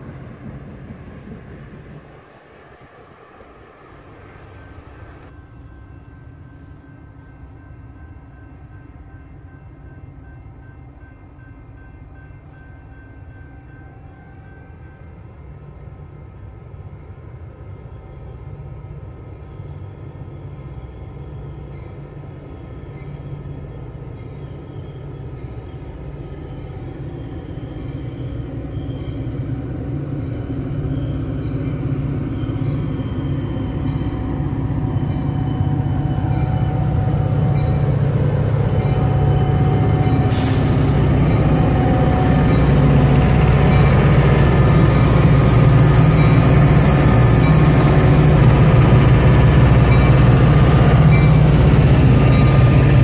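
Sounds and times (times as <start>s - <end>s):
diesel train approaching: 0.0s - 53.0s.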